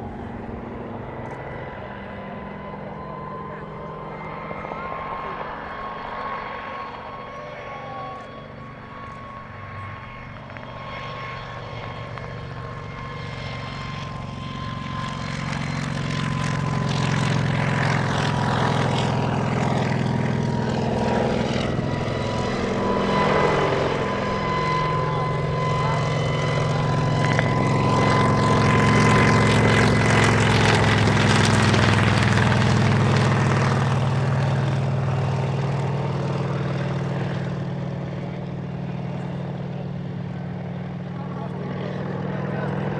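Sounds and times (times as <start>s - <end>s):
high whine: 0.0s - 36.1s
helicopter flying past: 0.0s - 42.9s.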